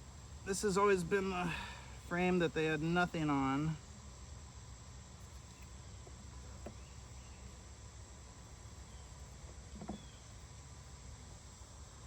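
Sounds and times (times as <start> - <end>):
honeybees humming: 0.0 - 12.0.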